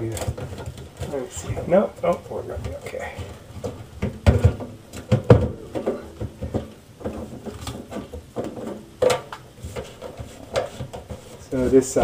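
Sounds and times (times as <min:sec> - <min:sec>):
drain pipe fittings clattering: 0:00.0 - 0:12.0.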